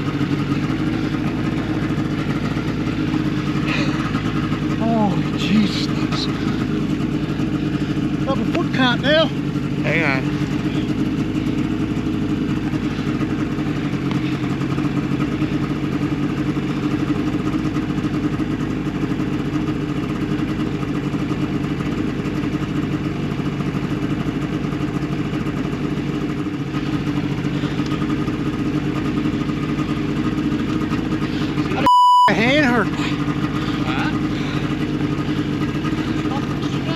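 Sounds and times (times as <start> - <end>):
snowmobile engine running: 0.0 - 36.9.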